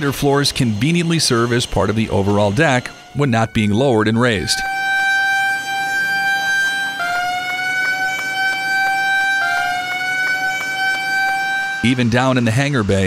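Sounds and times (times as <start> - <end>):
continuous high warning horn: 0.0 - 13.0.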